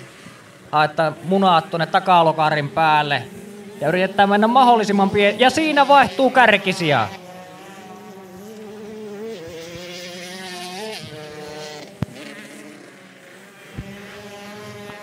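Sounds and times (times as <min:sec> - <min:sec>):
two-stroke motorcycle engines: 0:00.0 - 0:15.0.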